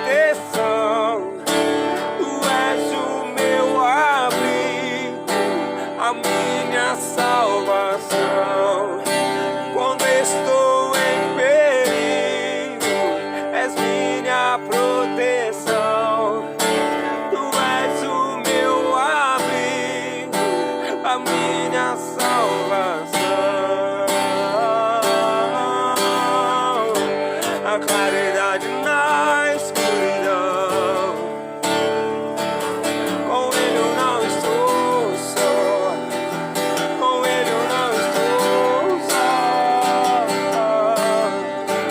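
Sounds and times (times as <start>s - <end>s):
acoustic guitar strumming: 0.0s - 41.9s.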